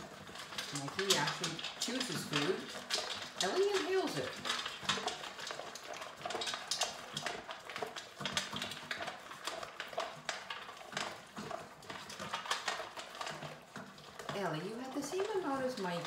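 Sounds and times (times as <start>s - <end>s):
dogs crunching kibble: 0.0s - 16.0s.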